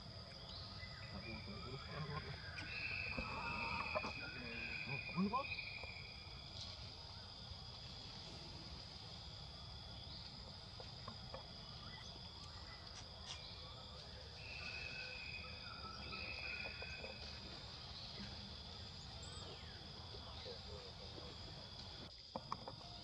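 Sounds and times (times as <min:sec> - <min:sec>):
high-pitched insect chorus: 0:00.0 - 0:23.0
lower insect call: 0:00.0 - 0:23.0.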